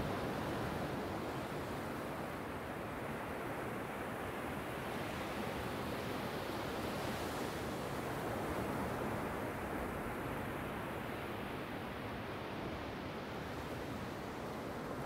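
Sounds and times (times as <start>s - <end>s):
surf washing up a beach: 0.0s - 15.0s.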